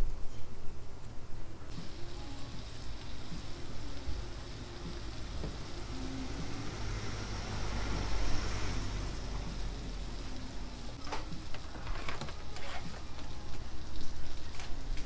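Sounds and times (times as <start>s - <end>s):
food sizzling on a griddle: 1.7s - 15.0s.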